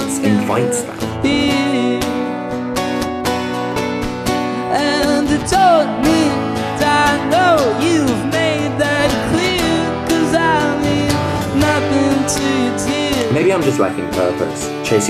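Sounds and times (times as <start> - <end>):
person singing: 0.0 - 2.6, 4.5 - 14.1
acoustic guitar strumming: 0.0 - 15.0.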